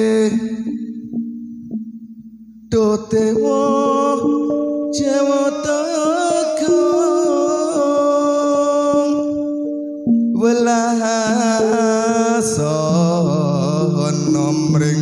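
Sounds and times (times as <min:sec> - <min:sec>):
keyboard music through pa system: 0:00.0 - 0:15.0.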